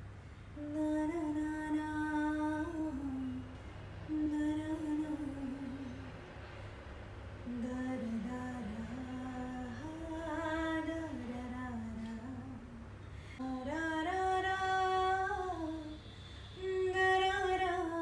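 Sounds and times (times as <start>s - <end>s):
woman singing: 0.6s - 6.1s, 7.5s - 18.0s.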